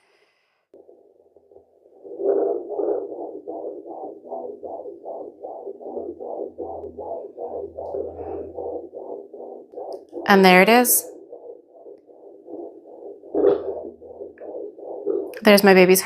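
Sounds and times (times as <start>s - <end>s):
fetal heartbeat whooshing: 0.7s - 16.0s.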